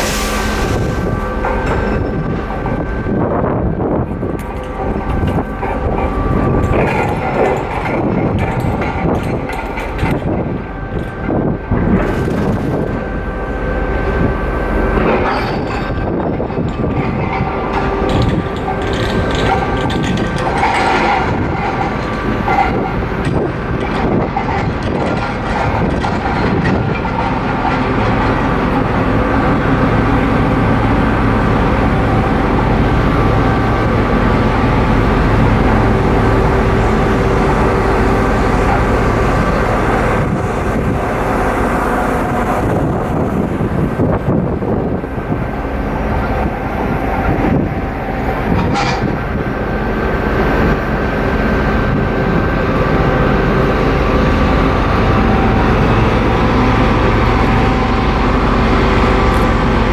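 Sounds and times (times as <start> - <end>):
ferry engine low rumble: 0.0 - 59.9
steady machinery hums: 0.0 - 59.9.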